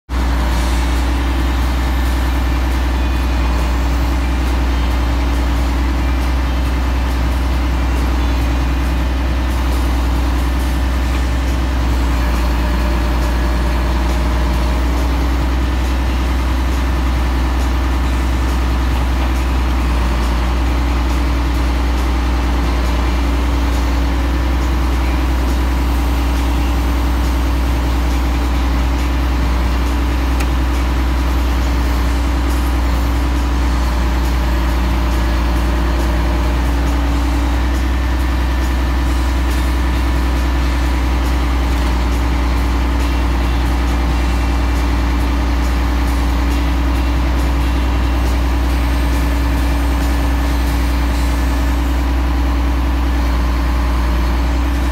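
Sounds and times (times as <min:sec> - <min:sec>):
diesel truck engine droning: 0:00.0 - 0:54.9.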